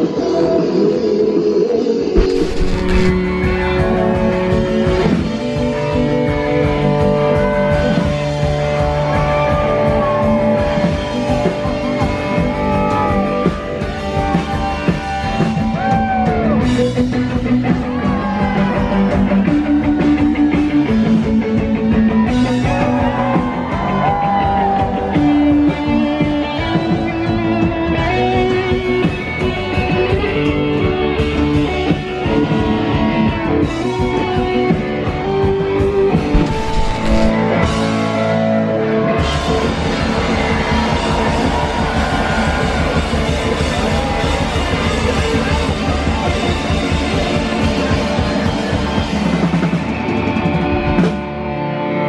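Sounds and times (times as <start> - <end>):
rock band playing live: 2.1 - 52.0.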